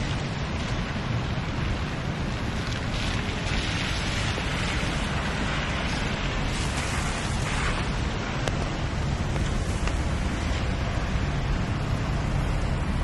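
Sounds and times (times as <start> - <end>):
car tyres swishing on wet street: 0.0 - 13.0
low rumble of traffic: 0.0 - 13.0
steady rain: 0.0 - 13.0.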